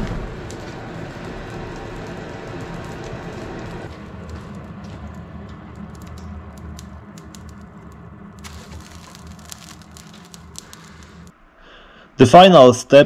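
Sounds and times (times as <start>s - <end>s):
burning charcoal crackling: 0.0s - 11.4s
steady low hum: 0.0s - 12.2s.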